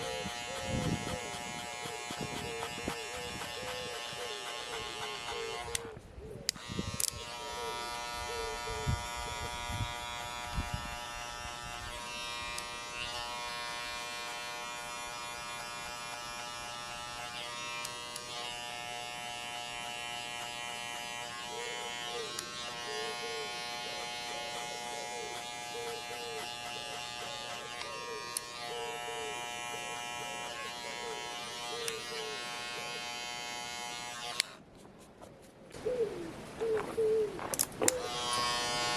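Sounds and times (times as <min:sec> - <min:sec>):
electric hair clippers buzzing: 0:00.0 - 0:34.6, 0:37.9 - 0:38.9.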